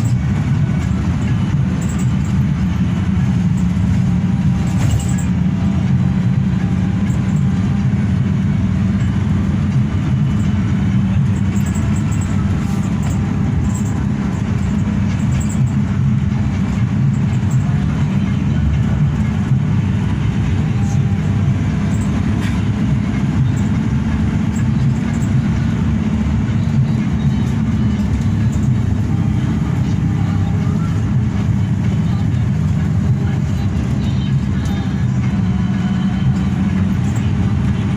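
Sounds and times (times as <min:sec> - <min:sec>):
bus engine and road noise: 0:00.0 - 0:37.9.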